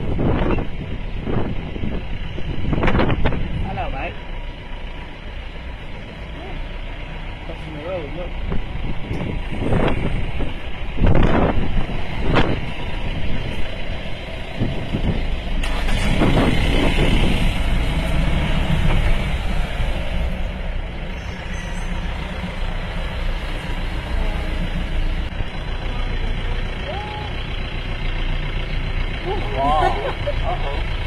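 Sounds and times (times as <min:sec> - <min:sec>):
vehicle engines idling: 0:00.0 - 0:31.0.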